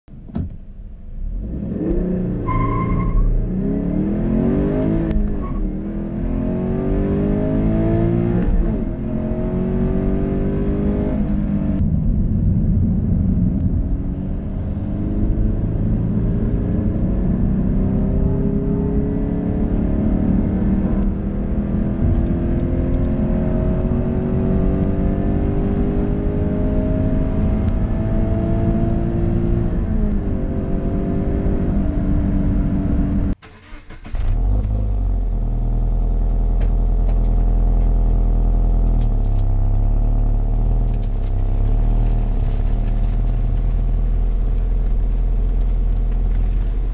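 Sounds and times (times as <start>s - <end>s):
car engine accelerating hard: 1.3s - 46.9s.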